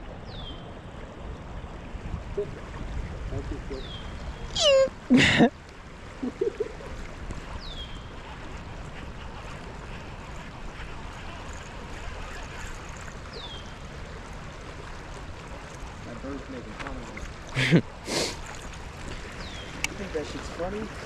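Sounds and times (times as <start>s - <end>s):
wind and water hiss: 0.0s - 21.0s.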